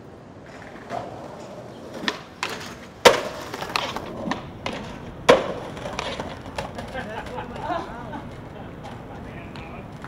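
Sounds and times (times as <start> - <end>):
skateboard rolling on concrete: 0.0 - 10.0
skateboard clacks and slaps: 0.4 - 10.0.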